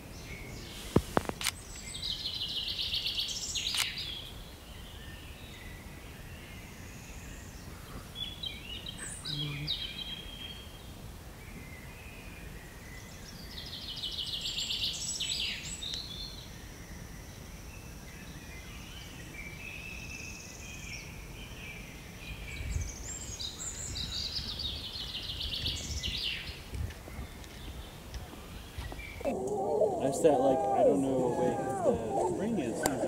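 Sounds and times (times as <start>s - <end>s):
low outdoor background noise: 0.0s - 33.0s
small birds trilling: 1.6s - 17.0s, 18.3s - 33.0s.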